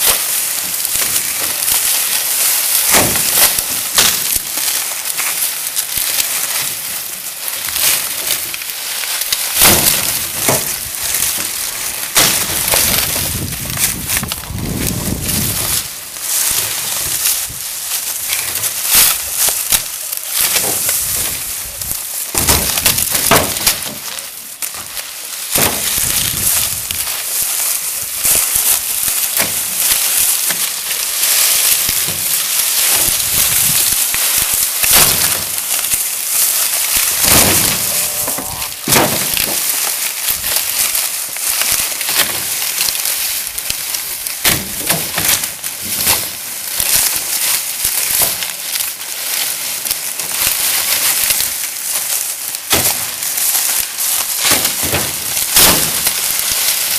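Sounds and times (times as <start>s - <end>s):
cane snapping: 0.0s - 6.7s, 7.4s - 24.0s, 24.6s - 56.9s
dry sugarcane rustling: 0.0s - 56.9s.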